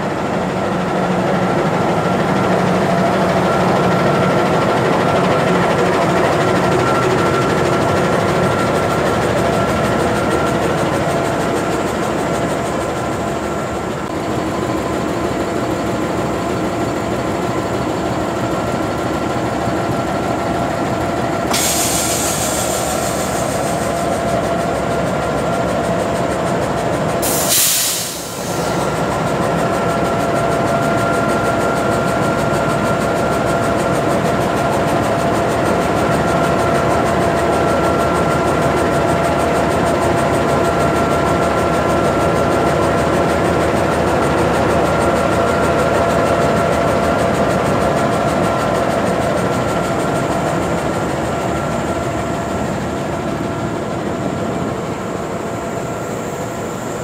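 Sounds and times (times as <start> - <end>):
locomotive engine rumbling: 0.0 - 57.0
steady engine whine: 0.0 - 57.0.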